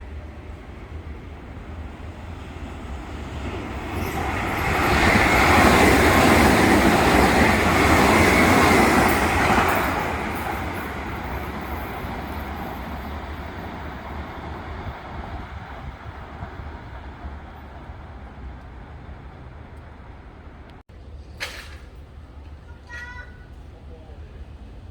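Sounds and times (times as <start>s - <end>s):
electric train rumbling past: 0.0s - 22.7s.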